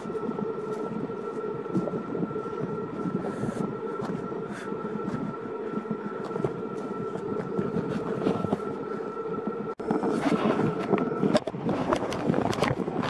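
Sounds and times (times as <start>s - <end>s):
constant high whine: 0.0s - 13.0s
vehicle rumbling in motion: 0.0s - 13.0s.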